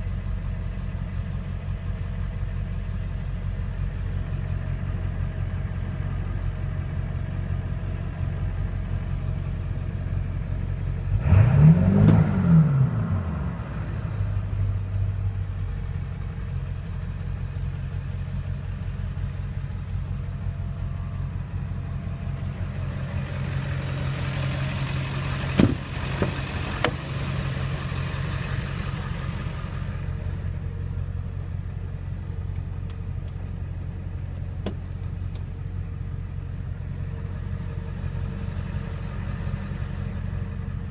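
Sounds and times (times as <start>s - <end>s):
diesel engine idling and revving: 0.0s - 40.9s.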